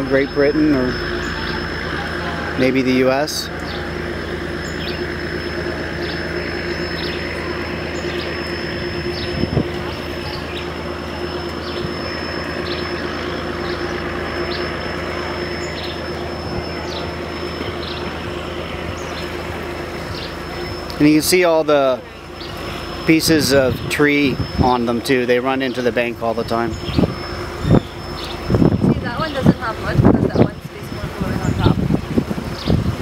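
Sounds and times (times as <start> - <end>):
bird chirping: 0.0 - 33.0
diesel engine droning: 0.0 - 33.0.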